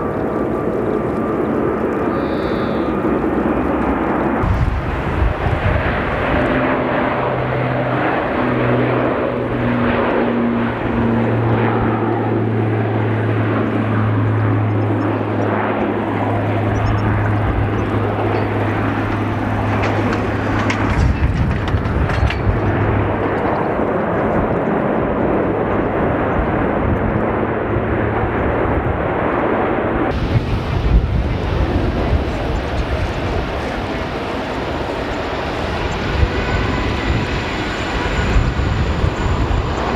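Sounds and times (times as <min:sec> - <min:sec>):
deep rumble: 0:00.0 - 0:12.0, 0:14.0 - 0:39.9
jet engine noise: 0:00.0 - 0:39.9.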